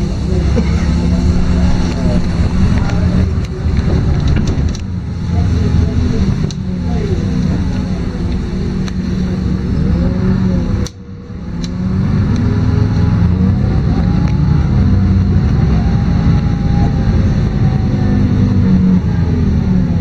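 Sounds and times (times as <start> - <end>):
bus engine drone: 0.0 - 20.0
gliding whine: 0.0 - 20.0.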